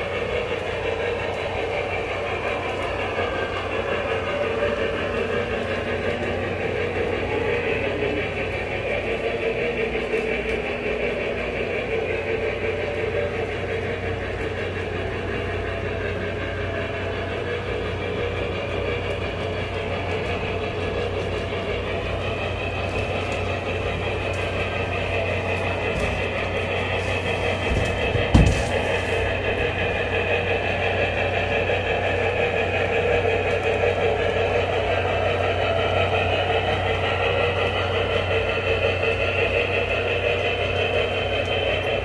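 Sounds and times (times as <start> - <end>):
model train running on track: 0.0 - 42.0.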